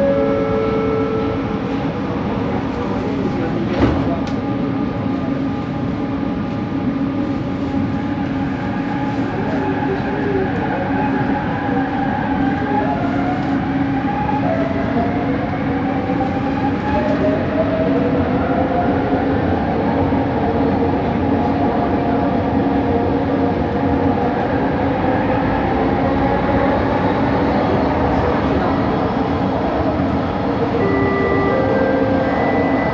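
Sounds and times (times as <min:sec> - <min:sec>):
train rumbling inside car: 0:00.0 - 0:32.9.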